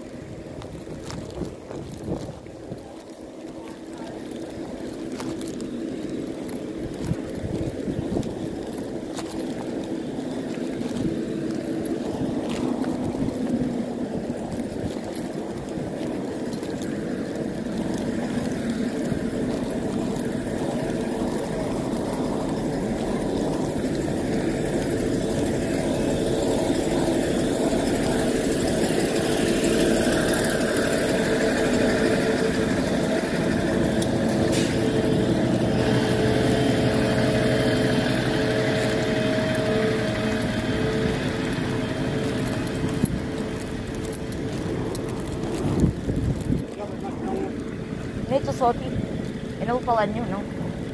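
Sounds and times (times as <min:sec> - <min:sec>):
constant hum: 0:00.0 - 0:50.9
diesel train engines idling: 0:00.0 - 0:50.9.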